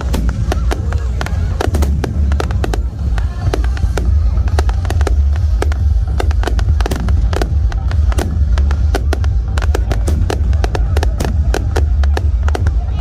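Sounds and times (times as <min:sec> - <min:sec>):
fireworks bangs and cracks: 0:00.0 - 0:13.0
low rumble: 0:00.0 - 0:13.0.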